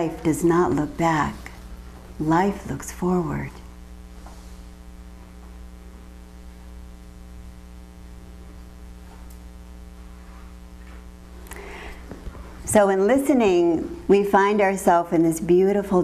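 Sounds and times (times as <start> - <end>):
buzzy electrical mains hum: 0.0 - 16.0.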